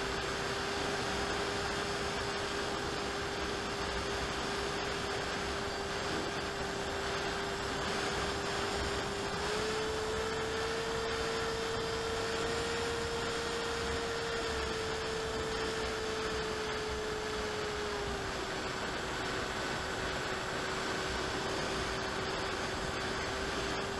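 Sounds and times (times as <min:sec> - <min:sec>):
electric motor and propeller whine: 0:00.0 - 0:23.9.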